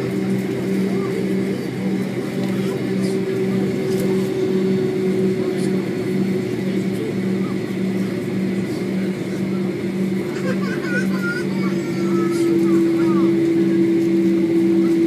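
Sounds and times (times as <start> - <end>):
jet engines heard from cabin: 0.0 - 15.0.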